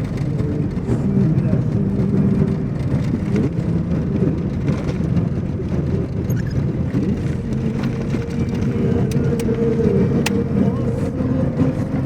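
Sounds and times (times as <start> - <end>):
road noise rumble: 0.0 - 12.0
vehicle engine hum: 0.0 - 12.0.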